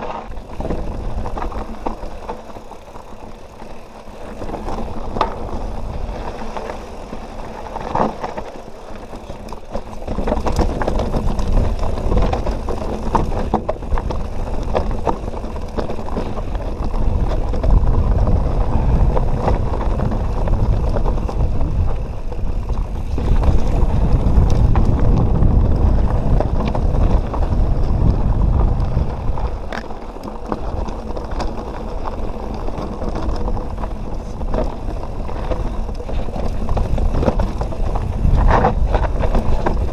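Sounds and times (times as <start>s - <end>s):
bike rattling and knocking: 0.0s - 39.9s
bike tyres over rock and dirt: 0.0s - 39.9s
wind buffeting microphone: 0.0s - 39.9s.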